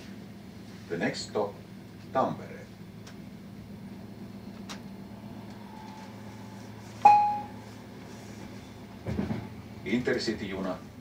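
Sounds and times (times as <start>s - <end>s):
train coach running hum: 0.0s - 11.0s.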